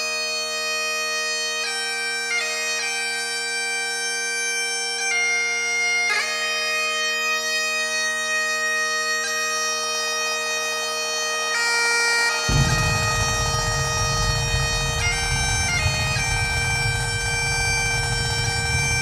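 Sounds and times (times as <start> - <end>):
bagpipe music: 0.0 - 19.0.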